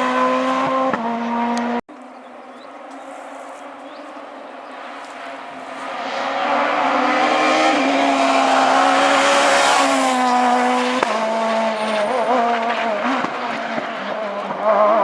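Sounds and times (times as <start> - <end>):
rally car engine revving past: 0.0 - 1.8, 4.2 - 15.0.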